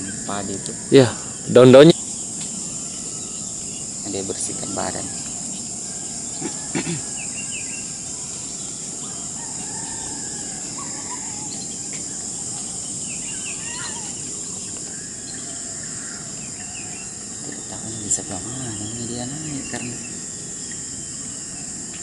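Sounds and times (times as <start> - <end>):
faint bird chirps: 0.0 - 22.0
insects droning: 0.0 - 22.0.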